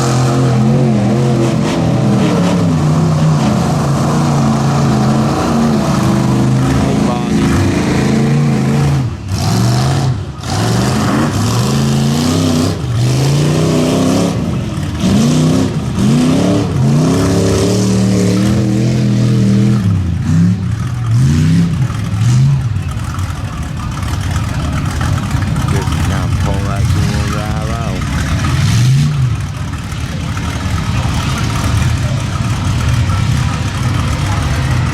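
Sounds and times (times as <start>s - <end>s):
truck engine revving: 0.0s - 34.9s.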